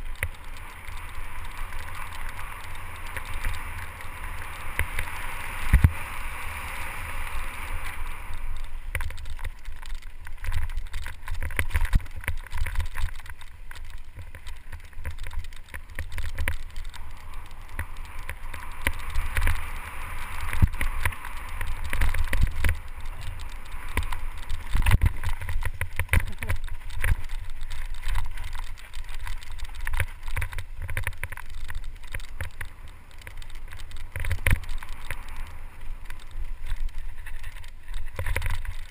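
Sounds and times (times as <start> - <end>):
bike rattling and knocking: 0.0 - 38.9
tyres crunching over dirt: 0.0 - 38.9
wind rumble on microphone: 0.0 - 38.9.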